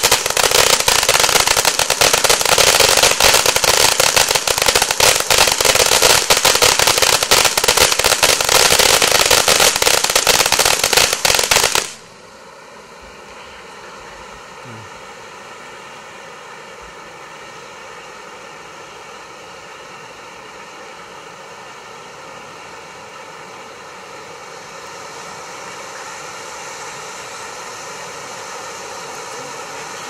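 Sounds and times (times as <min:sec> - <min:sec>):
firework fountain hissing sparks: 0:00.0 - 0:30.0.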